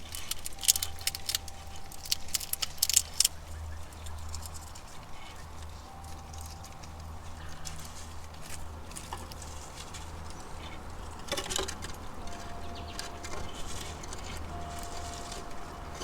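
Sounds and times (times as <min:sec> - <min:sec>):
squirrels cracking food: 0:00.0 - 0:16.0
steady low rumble: 0:00.0 - 0:16.0.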